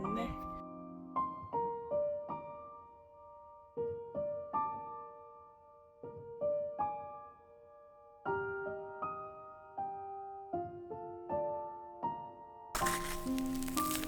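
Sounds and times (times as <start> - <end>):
soft piano notes and chords: 0.0 - 14.0.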